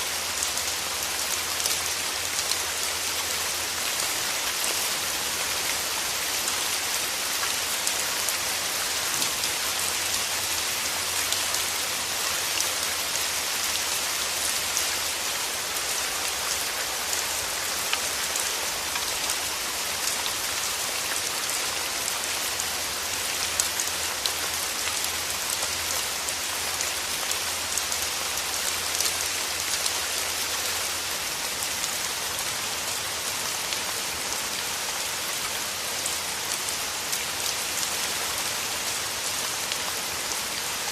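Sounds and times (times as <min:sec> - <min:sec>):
rain falling through trees: 0:00.0 - 0:40.9.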